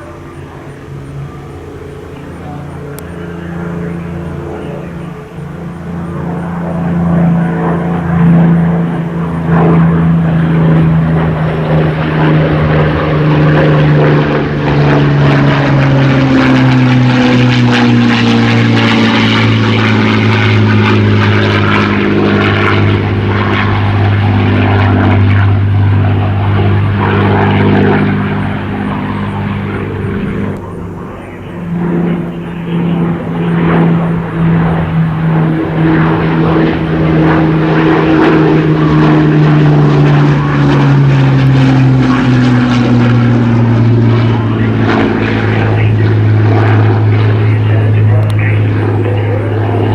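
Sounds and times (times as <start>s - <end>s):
propeller plane engine drone: 0.0s - 49.9s.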